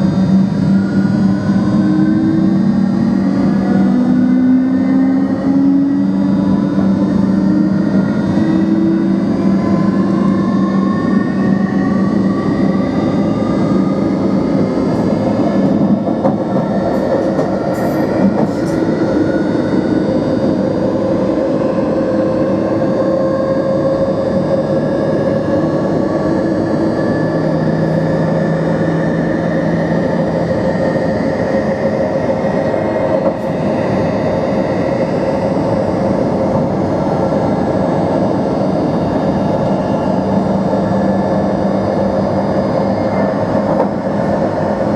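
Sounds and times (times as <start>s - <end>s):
rail running noise: 0.0s - 44.9s.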